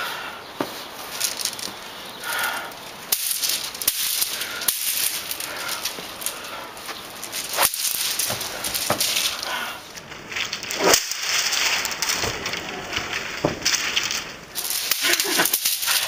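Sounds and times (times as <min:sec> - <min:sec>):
wooden sticks rattling: 0:00.6 - 0:16.0.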